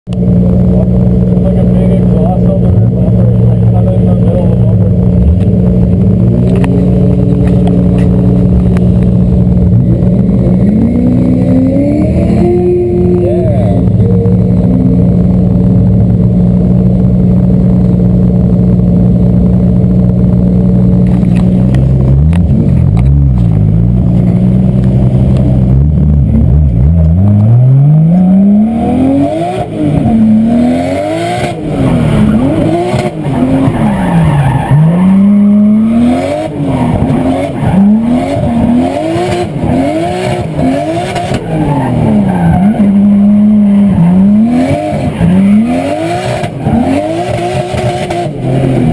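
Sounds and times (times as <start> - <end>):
car engine revving: 0.1 - 48.9.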